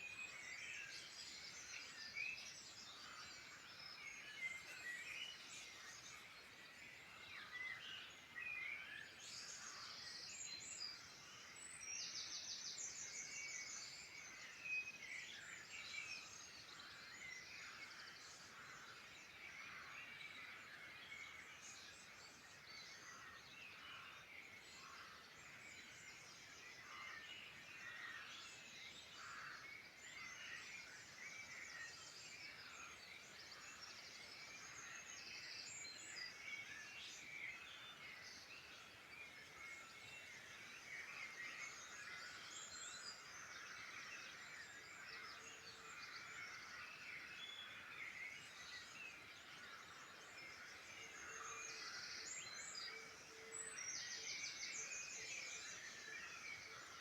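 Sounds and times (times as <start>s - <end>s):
chorus of songbirds singing: 0.0s - 57.0s.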